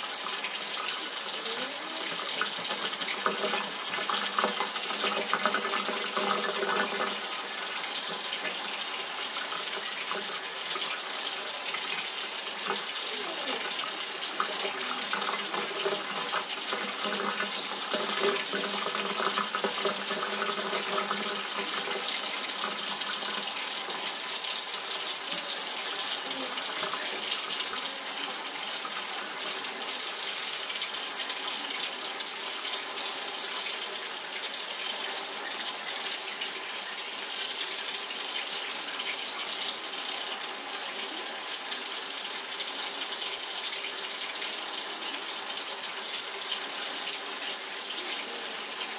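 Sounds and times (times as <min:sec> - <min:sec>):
faucet running into steel sink: 0:00.0 - 0:48.9.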